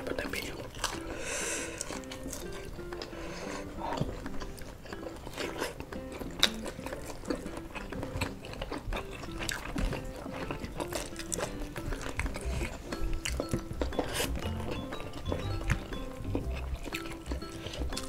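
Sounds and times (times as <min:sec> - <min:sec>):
chewing and lip smacks: 0:00.0 - 0:18.0
soft background music: 0:00.0 - 0:18.0.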